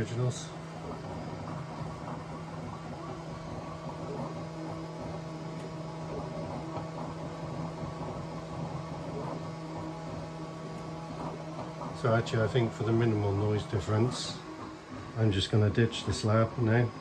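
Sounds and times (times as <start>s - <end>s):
printer motors and fans whirring: 0.0s - 17.0s.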